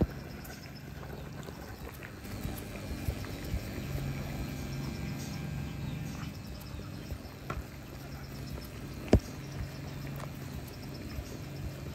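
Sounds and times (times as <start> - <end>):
low electrical hum: 0.0 - 11.9.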